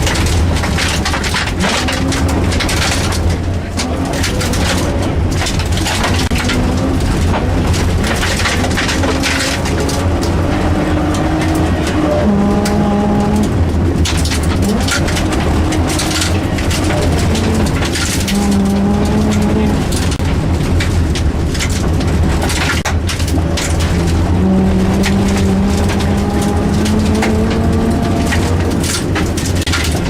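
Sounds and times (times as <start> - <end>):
car engine revving: 0.0 - 30.0
tyre and road noise: 0.0 - 30.0.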